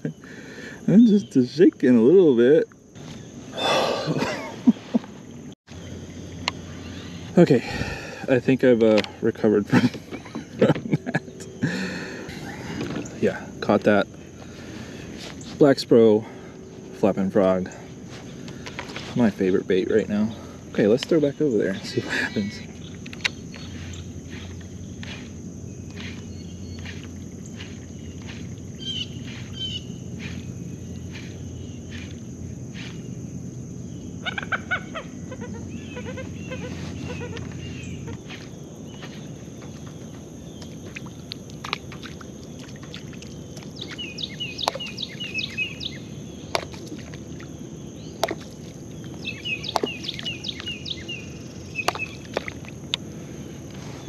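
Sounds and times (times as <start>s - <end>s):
birds chirping: 0.0s - 54.0s
high insect drone: 0.0s - 54.0s.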